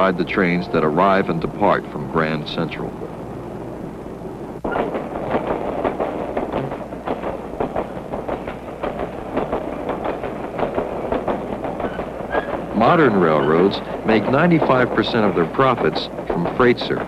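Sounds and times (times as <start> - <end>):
freight train wheels clicking: 0.0 - 17.0
low train rumble: 0.0 - 17.0.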